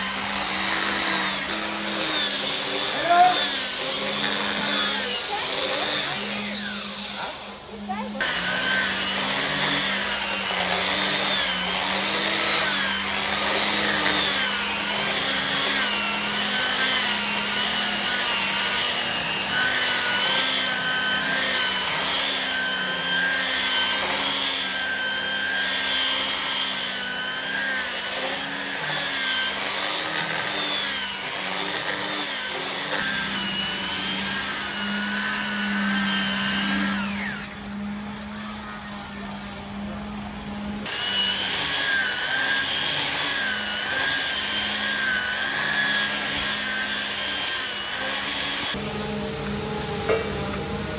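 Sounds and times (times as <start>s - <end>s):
angle grinder sanding wood: 0.0s - 50.0s.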